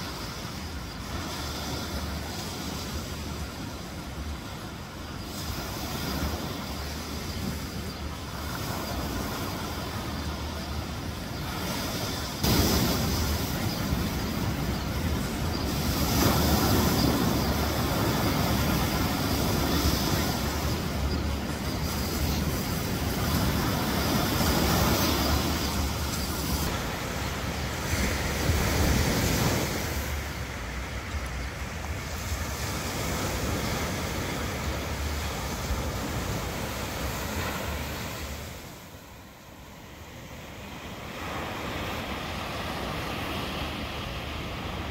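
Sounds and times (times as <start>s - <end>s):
ocean surf breaking on beach: 0.0s - 44.9s.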